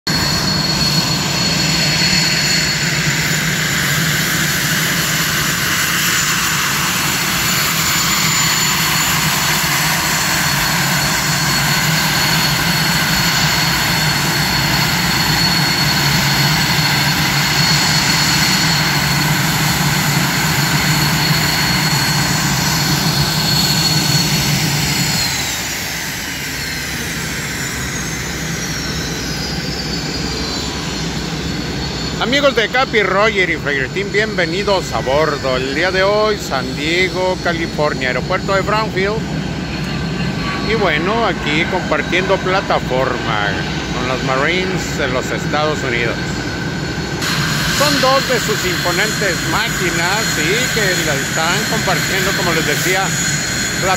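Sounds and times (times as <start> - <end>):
jet engines idling with whine: 0.1 - 53.9.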